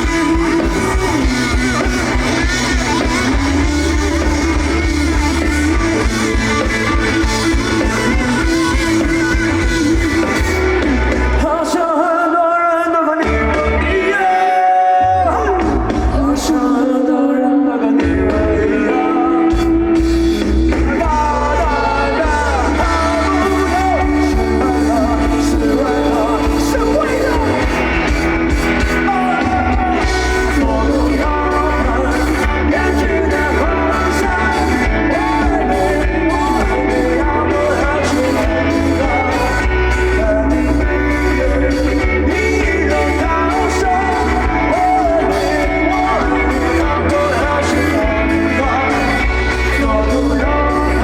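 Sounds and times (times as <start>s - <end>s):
bass guitar: 0.0s - 12.2s, 13.2s - 16.9s, 17.8s - 51.0s
drums: 0.0s - 51.0s
electric guitar: 0.0s - 51.0s
person singing: 0.0s - 51.0s.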